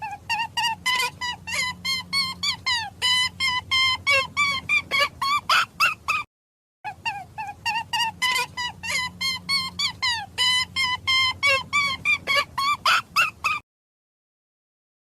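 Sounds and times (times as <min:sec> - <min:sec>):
high-pitched animal calls: 0:00.0 - 0:06.3, 0:06.9 - 0:13.6.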